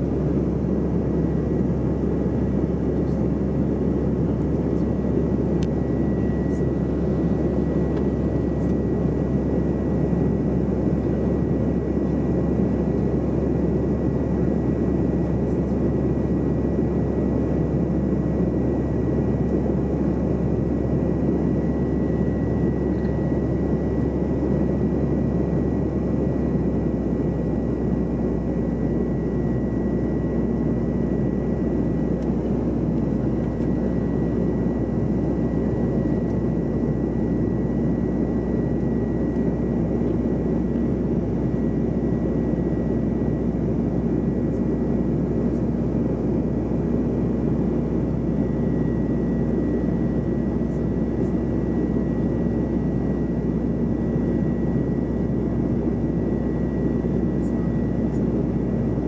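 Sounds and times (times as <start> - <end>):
jet cabin roar: 0.0 - 59.0.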